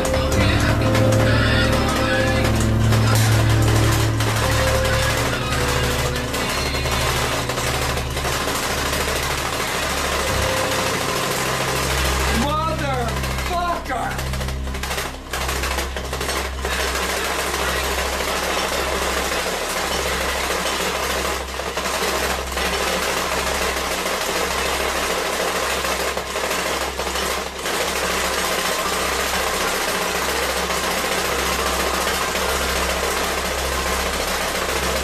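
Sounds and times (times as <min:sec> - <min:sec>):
gear motor buzzing: 0:00.0 - 0:35.0.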